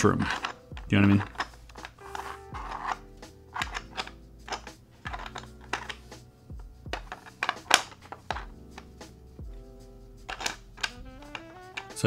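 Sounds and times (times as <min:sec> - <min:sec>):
plastic pieces clicking: 0:00.0 - 0:06.1, 0:06.9 - 0:08.9, 0:10.2 - 0:12.0
soft background music: 0:00.0 - 0:12.0.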